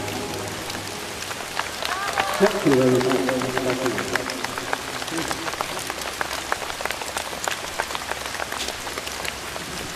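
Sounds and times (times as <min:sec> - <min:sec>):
steady rain: 0:00.0 - 0:09.9.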